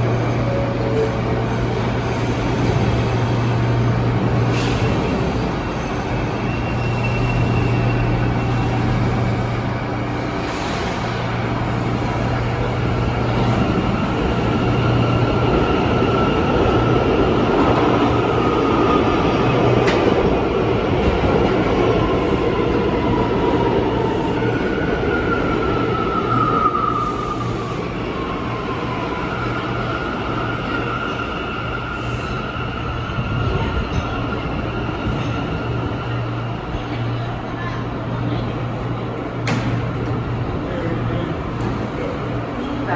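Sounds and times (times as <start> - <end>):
subway train rumbling on track: 0.0 - 42.9.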